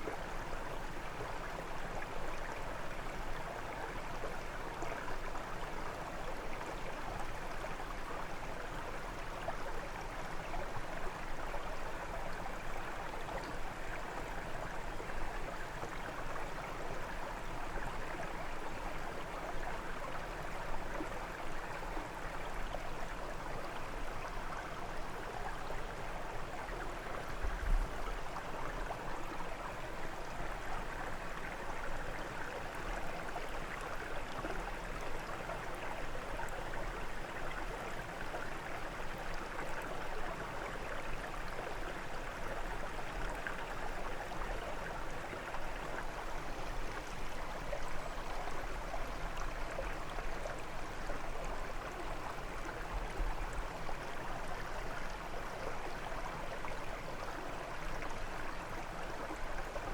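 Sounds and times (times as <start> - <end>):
brook flowing over stones: 0.0 - 59.9.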